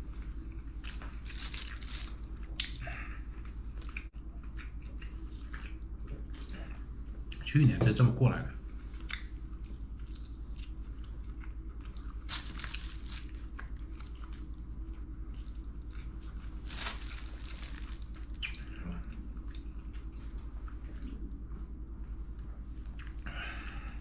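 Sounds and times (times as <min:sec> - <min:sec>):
chewing crunchy food: 0:00.1 - 0:07.5, 0:08.6 - 0:24.0.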